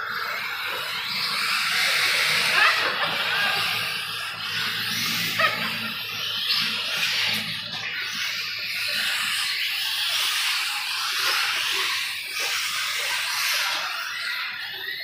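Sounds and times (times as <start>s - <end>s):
rc cars racing: 0.0s - 15.0s.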